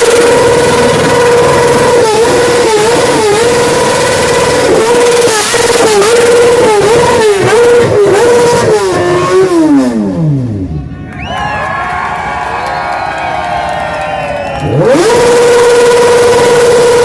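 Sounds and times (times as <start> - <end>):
motorcycle exhaust high tone: 0.0 - 11.0, 14.3 - 17.0.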